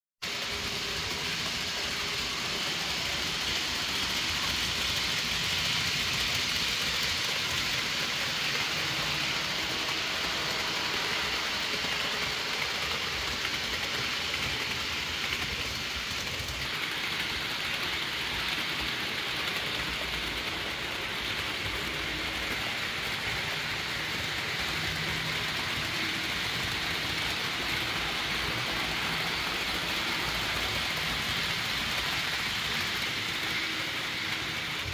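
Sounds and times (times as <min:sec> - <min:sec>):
model trains rolling whir: 0:00.2 - 0:34.9.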